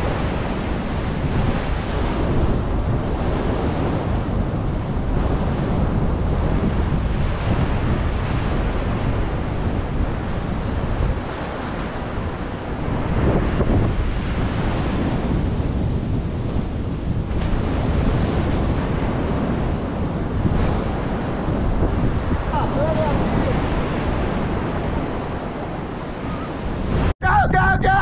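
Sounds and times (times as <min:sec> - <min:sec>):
surf breaking on a beach: 0:00.0 - 0:28.0
wind buffeting the microphone: 0:00.0 - 0:28.0.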